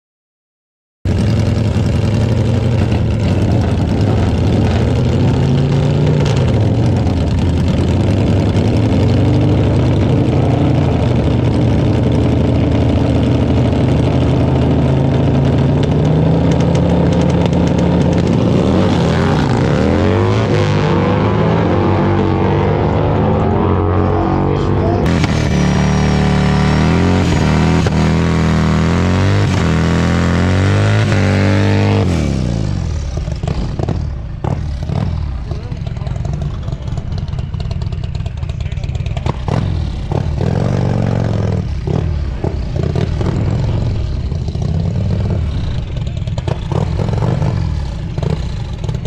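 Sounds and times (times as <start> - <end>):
motorcycle engines revving: 1.1 - 49.0
motorcycles accelerating through gears: 1.1 - 49.0.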